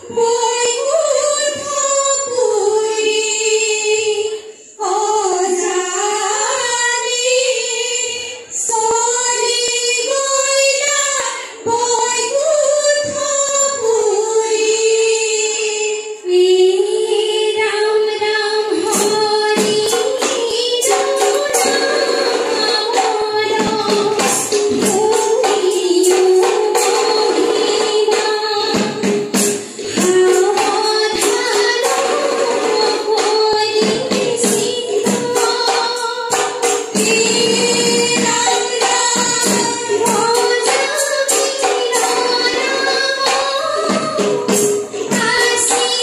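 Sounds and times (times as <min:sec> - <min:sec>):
percussion: 0:00.0 - 0:46.0
women's chorus singing: 0:00.0 - 0:46.0.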